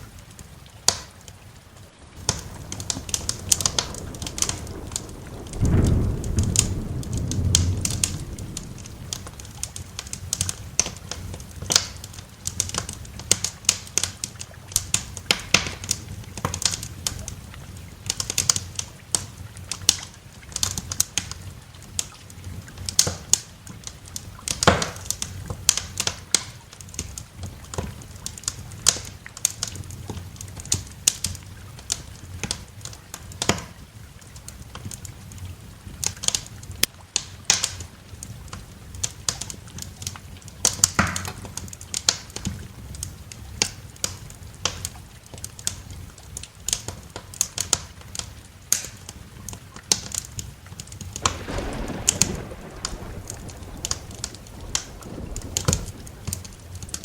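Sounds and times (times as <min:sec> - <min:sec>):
wood fire crackling: 0:00.1 - 0:57.0.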